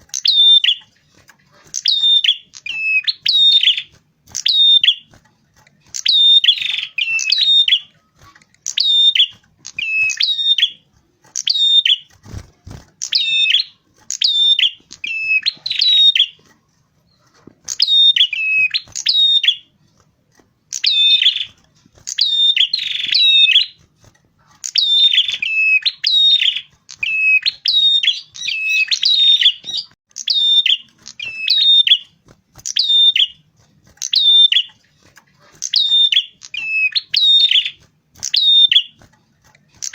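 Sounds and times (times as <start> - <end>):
small bird singing: 0.0 - 39.9.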